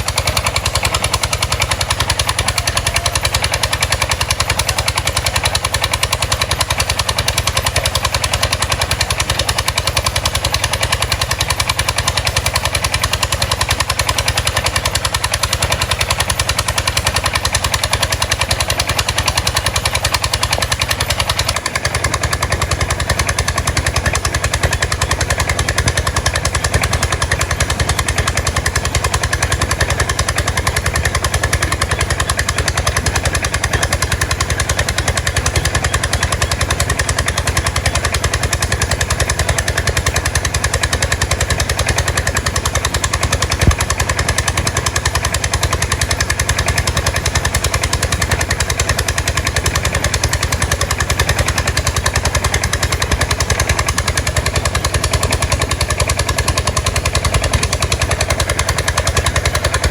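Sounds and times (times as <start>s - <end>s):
boat engine knocking: 0.0s - 59.9s.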